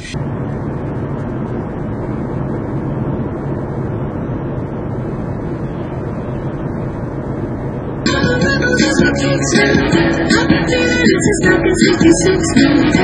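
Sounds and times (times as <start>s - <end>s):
car engine hum: 0.0s - 13.0s.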